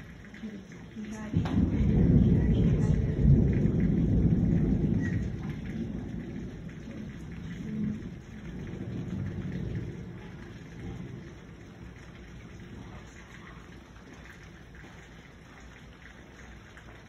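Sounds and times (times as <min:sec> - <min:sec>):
steady rain: 0:00.0 - 0:17.0
thunder rumbling: 0:00.0 - 0:17.0.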